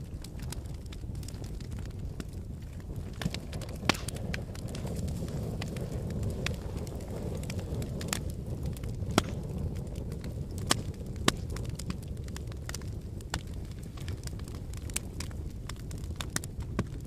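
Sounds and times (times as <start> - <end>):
fire crackling in a fireplace: 0.0 - 17.0
fire pops and snaps: 0.0 - 17.0.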